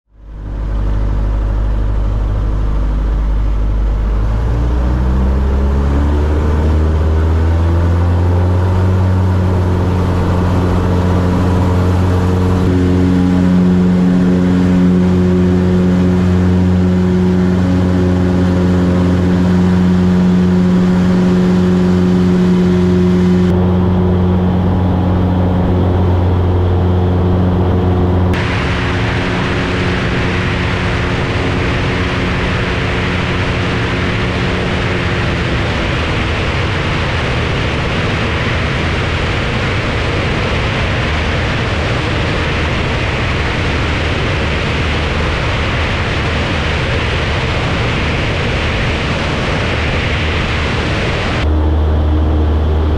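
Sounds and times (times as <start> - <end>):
light aircraft engine and propeller: 0.1 - 52.9.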